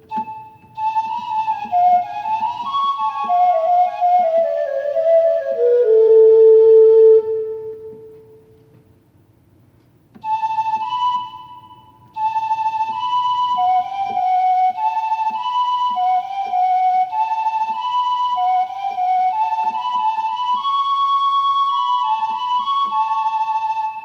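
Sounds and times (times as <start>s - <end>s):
keyboard reed flute melody: 0.0s - 8.6s, 10.2s - 24.0s.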